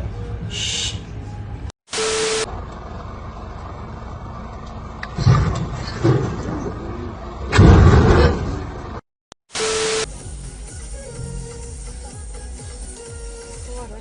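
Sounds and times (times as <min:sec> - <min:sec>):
vehicle engine rumbling: 0:00.0 - 0:09.0, 0:09.8 - 0:14.0.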